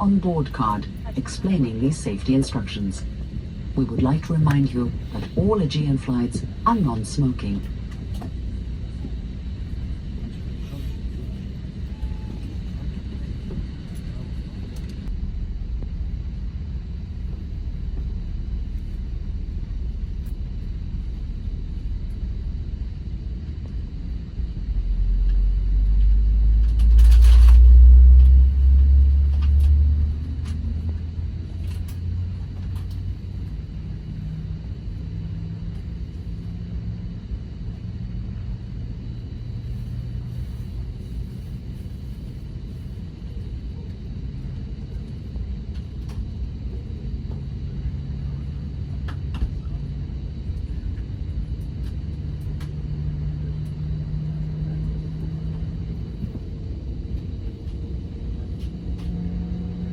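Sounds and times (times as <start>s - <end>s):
airliner cabin rumble: 0.0s - 59.9s
deeper louder engine rumble: 0.0s - 59.9s.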